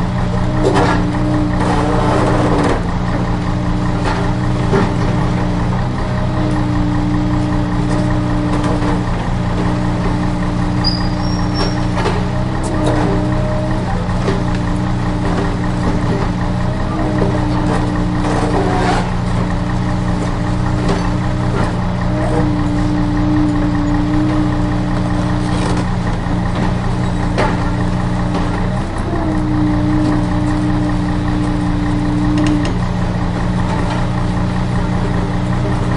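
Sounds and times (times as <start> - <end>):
truck engine idling: 0.0 - 35.9.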